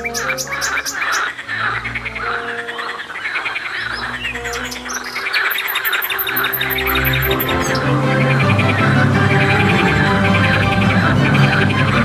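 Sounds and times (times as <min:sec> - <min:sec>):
birds chirping: 0:00.0 - 0:12.0
harsh rasping bird calls: 0:00.0 - 0:12.0
soft orchestral music: 0:00.0 - 0:12.0.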